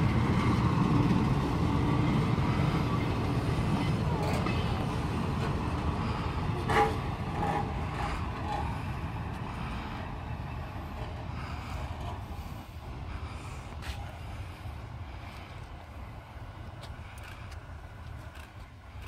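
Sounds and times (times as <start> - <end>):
diesel railcar rumble: 0.0 - 19.0.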